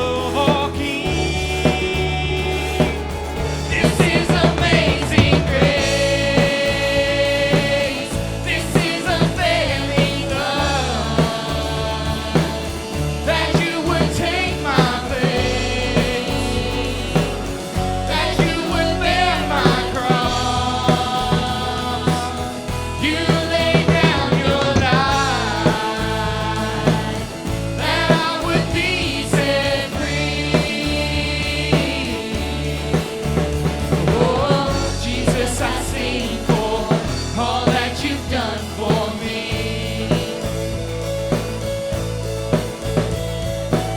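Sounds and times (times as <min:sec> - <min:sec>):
person singing worship song: 0:00.0 - 0:41.1
bass: 0:00.0 - 0:43.9
drum kit: 0:00.0 - 0:43.9.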